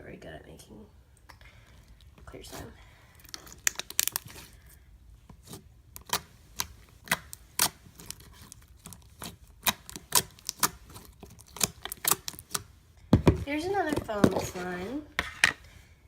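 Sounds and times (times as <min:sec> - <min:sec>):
slime squishing: 0:01.9 - 0:15.4.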